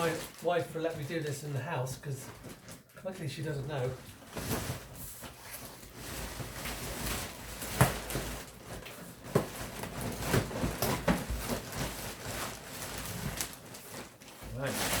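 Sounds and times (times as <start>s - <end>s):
packaging rustling and scraping: 0.0s - 1.1s, 2.1s - 15.0s.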